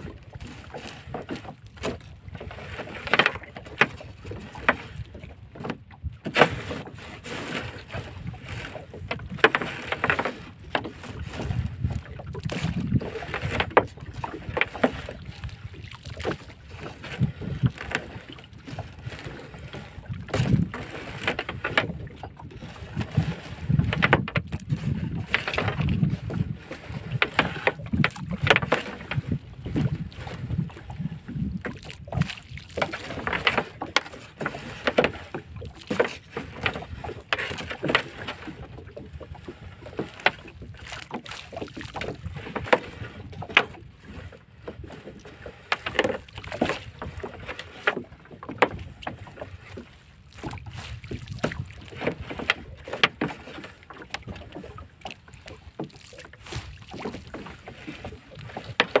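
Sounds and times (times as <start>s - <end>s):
fishing net hauled into boat: 0.0s - 59.0s.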